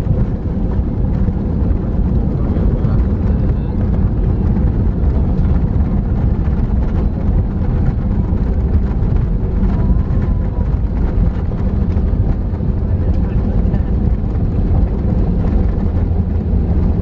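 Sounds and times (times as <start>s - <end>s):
jet cabin rumble during landing roll: 0.0s - 17.0s.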